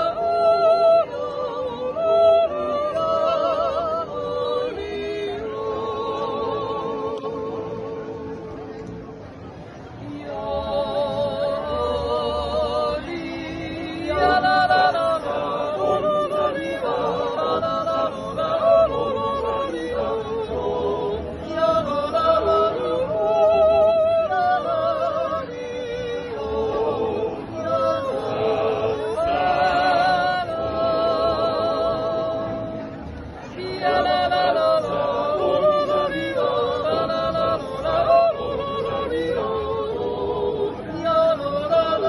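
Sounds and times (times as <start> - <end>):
choir yodelling a cappella: 0.0 - 8.6, 10.0 - 42.0.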